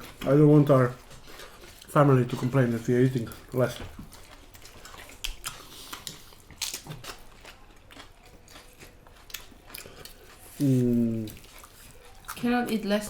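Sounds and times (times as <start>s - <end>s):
chewing crispy fried pork: 0.0s - 13.0s.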